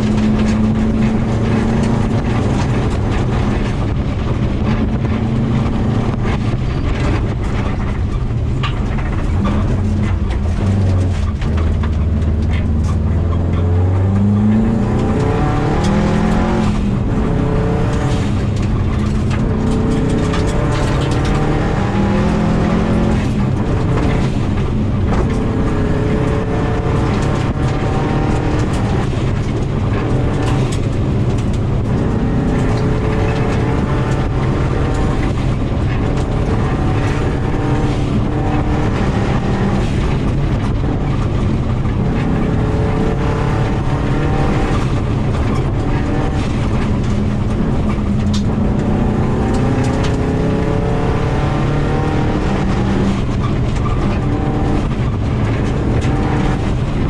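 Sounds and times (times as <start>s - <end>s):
car engine revving: 0.0s - 57.0s
gravel rattling against car: 0.0s - 57.0s.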